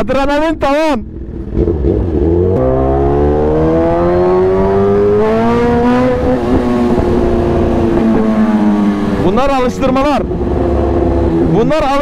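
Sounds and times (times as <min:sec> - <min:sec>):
motorcycle engine accelerating: 0:01.0 - 0:12.0.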